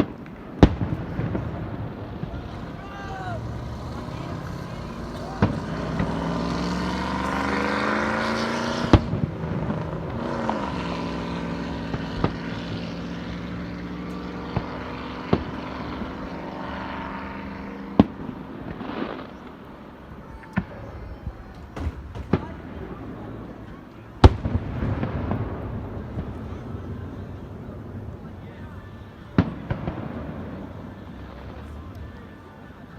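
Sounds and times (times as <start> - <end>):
firework bangs: 0.0 - 32.9.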